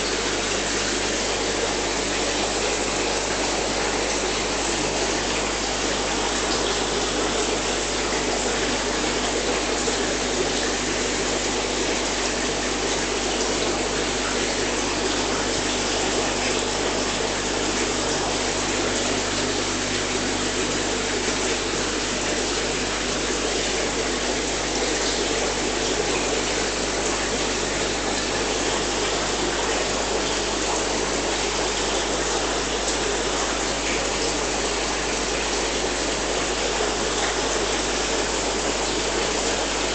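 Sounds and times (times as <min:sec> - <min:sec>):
low pump hum: 0:00.0 - 0:39.9
running water rushing: 0:00.0 - 0:39.9.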